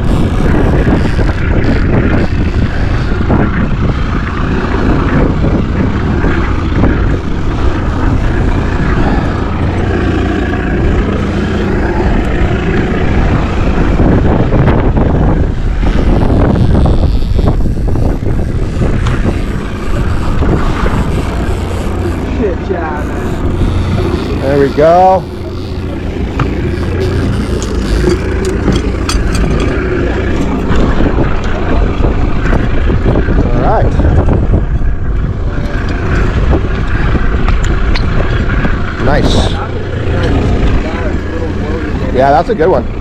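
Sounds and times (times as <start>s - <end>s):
strong wind buffeting microphone: 0.0s - 43.0s.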